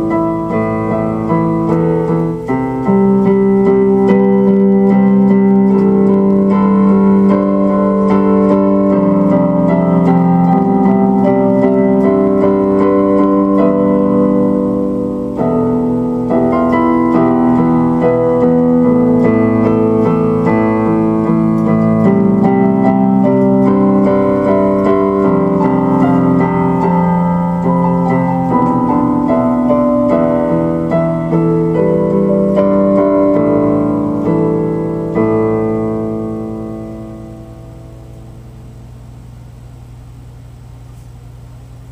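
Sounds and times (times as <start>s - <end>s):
keyboard playing slow chords: 0.0s - 41.9s.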